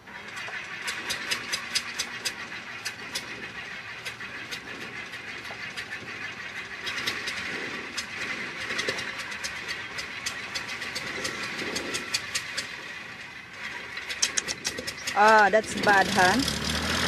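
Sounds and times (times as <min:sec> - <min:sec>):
light aircraft engine: 0:00.0 - 0:17.0
crackling clicks: 0:00.3 - 0:16.0.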